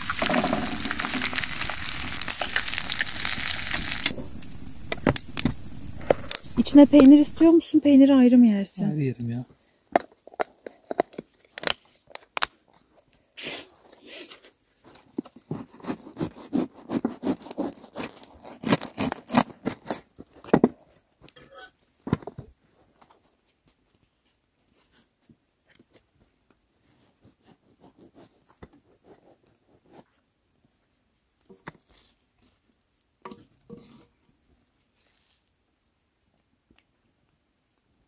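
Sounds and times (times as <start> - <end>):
rustling and crinkling: 0.0 - 38.0.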